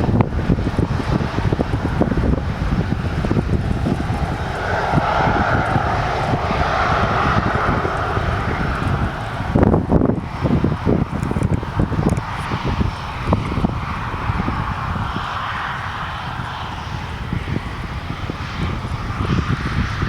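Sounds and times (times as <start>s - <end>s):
jet aircraft engine: 0.0s - 20.0s
wind buffeting microphone: 0.0s - 20.0s.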